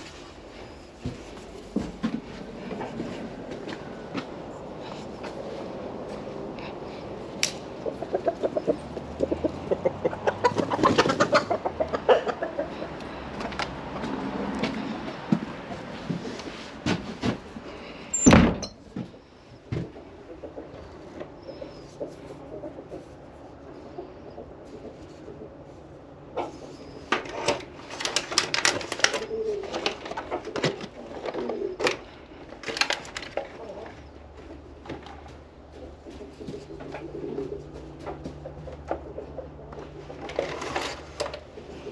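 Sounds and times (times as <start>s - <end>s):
chickens clucking: 0.0s - 18.3s, 18.9s - 28.1s, 29.0s - 41.9s.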